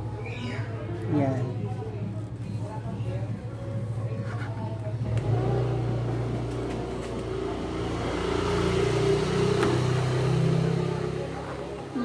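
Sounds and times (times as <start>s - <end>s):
vehicle engine running: 2.0s - 12.0s.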